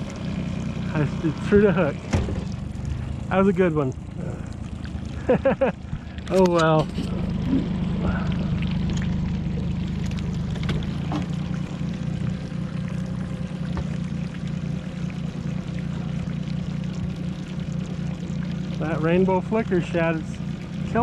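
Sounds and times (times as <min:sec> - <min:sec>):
outboard motor droning: 0:00.0 - 0:21.0
water rushing past boat: 0:00.0 - 0:21.0.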